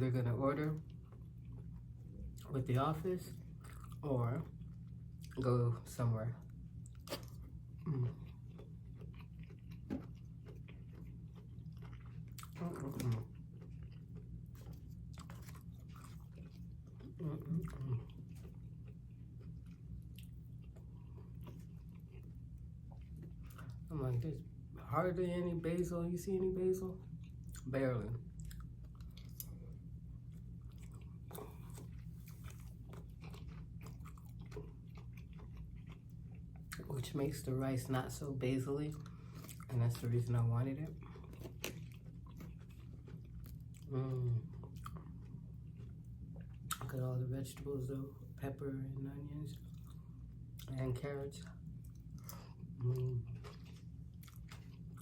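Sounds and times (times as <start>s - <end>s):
steady low hum: 0.0s - 55.0s
person chewing food: 0.6s - 2.5s, 3.3s - 5.5s, 6.4s - 24.8s, 26.4s - 37.2s, 38.9s - 47.0s, 49.5s - 55.0s.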